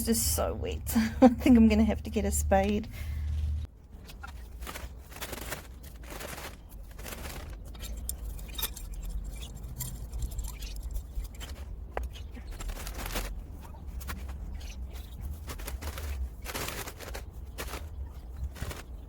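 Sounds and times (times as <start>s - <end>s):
compost scraping and rustling: 1.4s - 19.0s.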